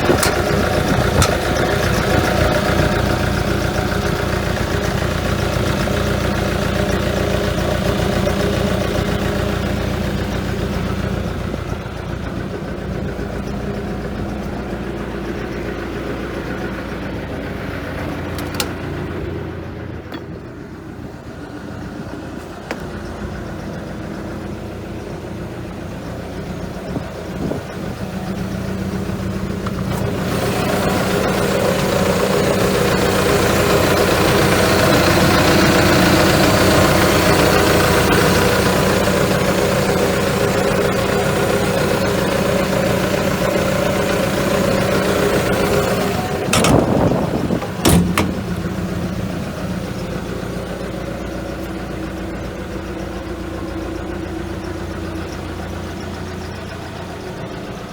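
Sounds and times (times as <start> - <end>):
excavator diesel engine idling: 0.0 - 57.9.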